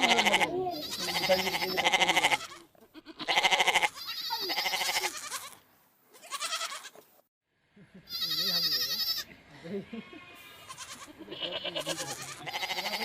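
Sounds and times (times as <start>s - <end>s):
goats bleating: 0.0s - 7.0s, 8.1s - 13.0s.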